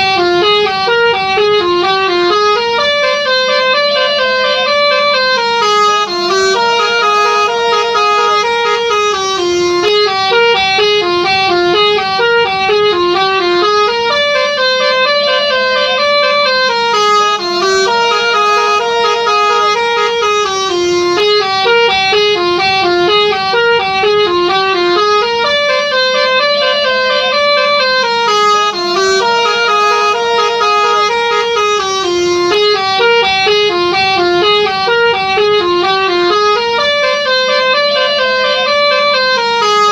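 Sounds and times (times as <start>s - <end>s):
musical bus horn melody: 0.0s - 39.9s.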